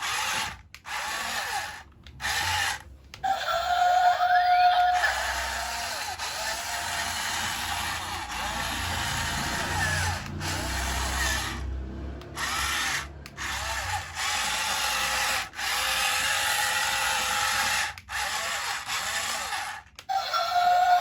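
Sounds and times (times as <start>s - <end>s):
toy electric motor whirring: 0.0s - 21.0s.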